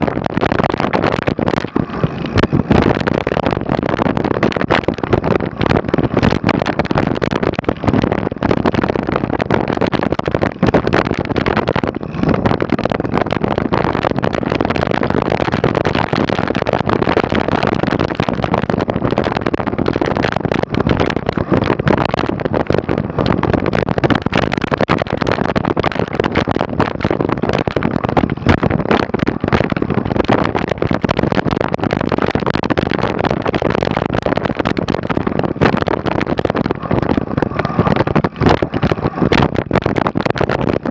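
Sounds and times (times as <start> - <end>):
wind and tyre rush: 0.0 - 40.9.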